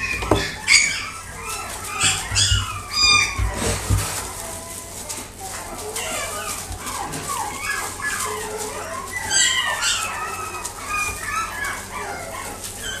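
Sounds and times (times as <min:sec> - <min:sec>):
puppy whining and yipping: 0:00.0 - 0:13.0.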